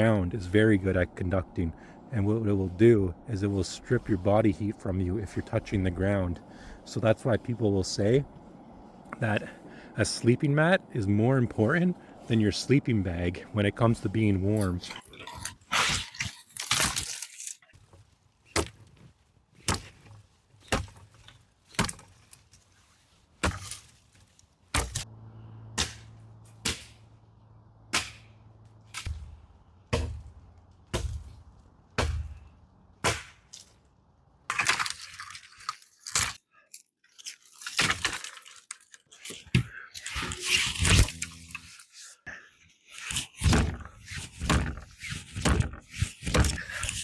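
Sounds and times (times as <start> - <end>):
noisy crunching and scraping: 0.0 - 47.0.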